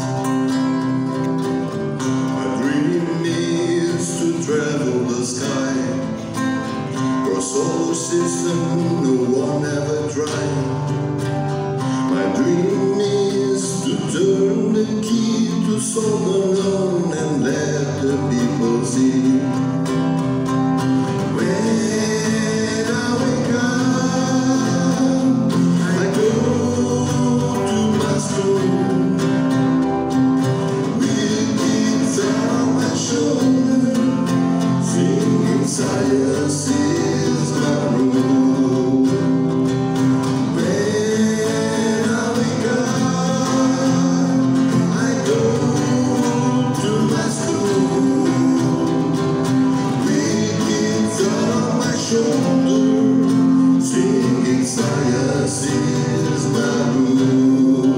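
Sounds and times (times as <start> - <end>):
acoustic guitars strumming: 0.0 - 57.9
man singing: 1.9 - 57.9.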